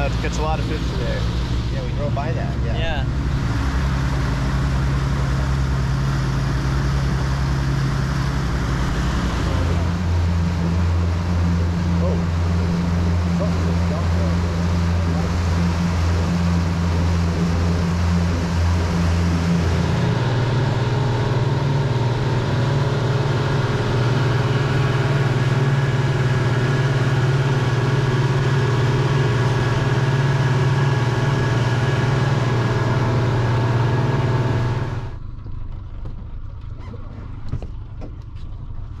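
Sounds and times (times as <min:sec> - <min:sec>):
rushing water: 0:00.0 - 0:34.8
outboard motors droning: 0:00.0 - 0:39.0.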